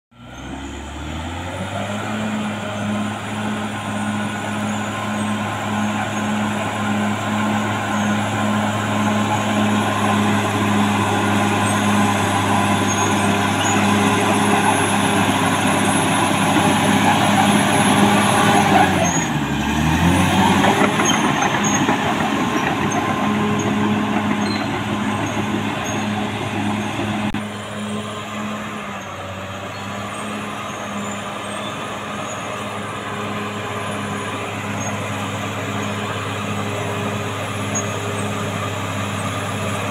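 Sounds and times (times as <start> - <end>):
bulldozer diesel engine: 0.1 - 39.9.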